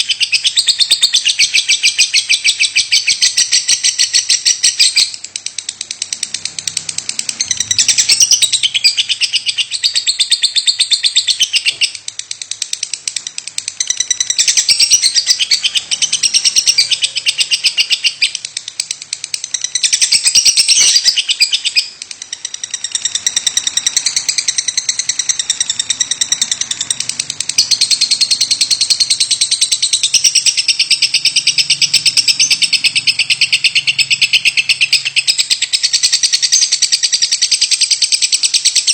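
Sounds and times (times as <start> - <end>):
lovebird chattering: 0.0 - 38.9.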